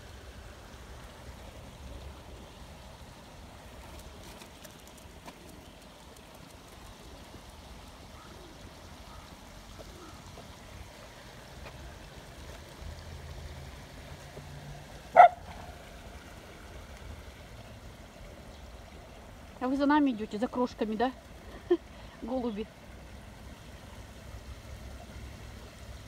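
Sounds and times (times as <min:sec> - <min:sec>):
bubbling stream: 0:00.0 - 0:26.0.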